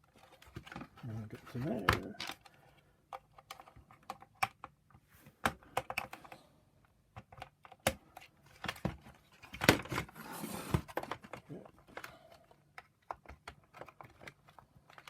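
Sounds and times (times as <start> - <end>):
hard plastic parts clicking: 0.1 - 15.0.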